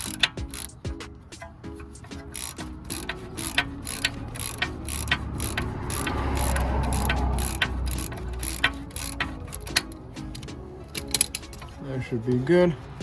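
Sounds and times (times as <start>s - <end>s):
hand ratchet clicking: 0.0s - 11.8s
rough grinding: 1.8s - 13.0s.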